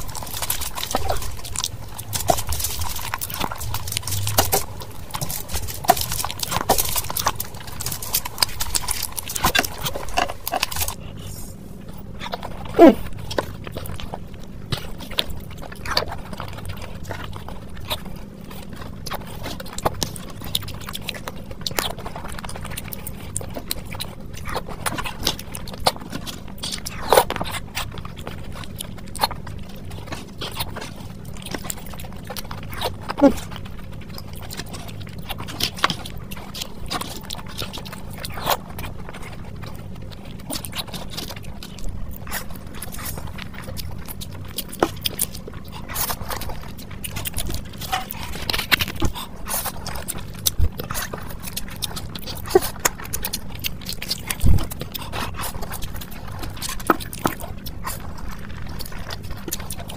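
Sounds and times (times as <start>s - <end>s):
steady low hum: 0.0s - 59.9s
wet chewing and lip-smacking: 0.0s - 59.9s.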